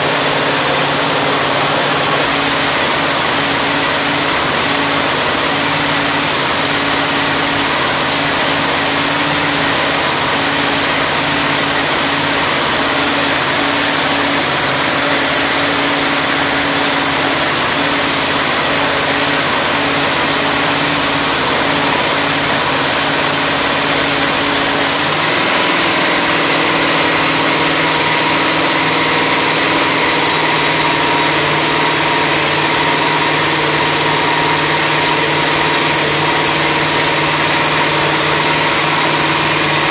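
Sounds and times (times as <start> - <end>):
engine running on test stand: 0.0 - 39.9.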